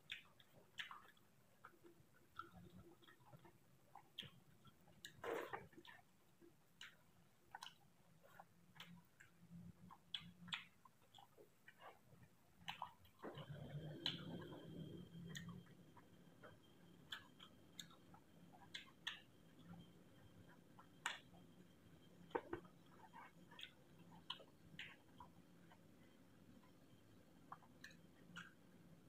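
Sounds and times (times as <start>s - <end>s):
chewing: 0.0s - 29.0s.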